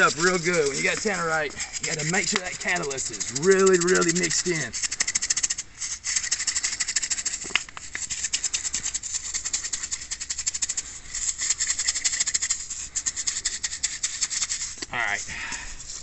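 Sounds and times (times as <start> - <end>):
plastic jar rattling when shaken: 0.0 - 16.0.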